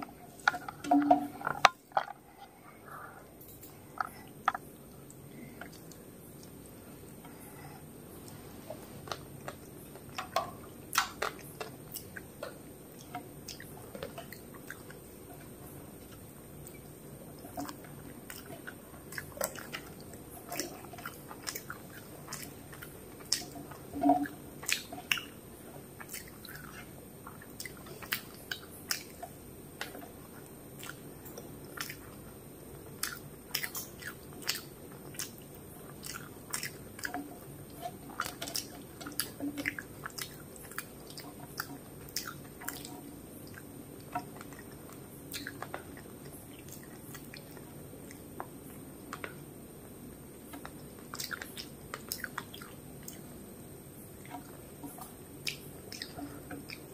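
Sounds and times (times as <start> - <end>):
person chewing food: 0.0 - 49.4, 50.4 - 53.5, 54.1 - 56.9.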